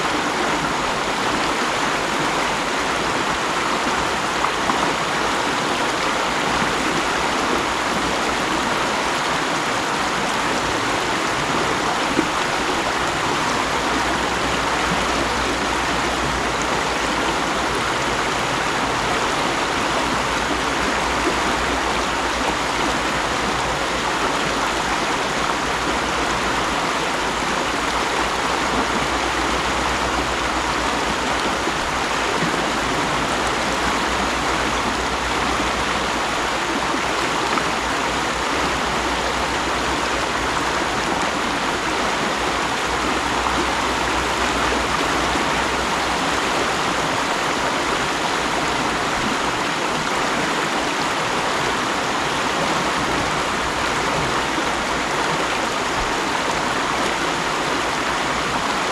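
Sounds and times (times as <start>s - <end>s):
stream splashing over rocks: 0.0s - 58.9s.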